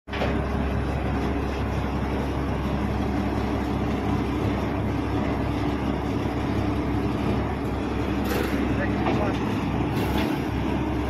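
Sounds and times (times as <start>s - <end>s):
combine harvester diesel engine: 0.1s - 11.0s.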